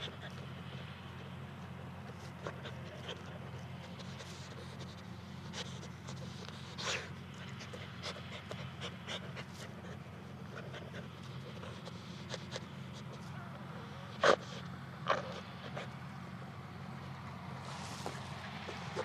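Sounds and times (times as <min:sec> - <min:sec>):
dog panting: 0:00.0 - 0:17.1, 0:17.7 - 0:19.0
steady low hum: 0:00.0 - 0:19.0.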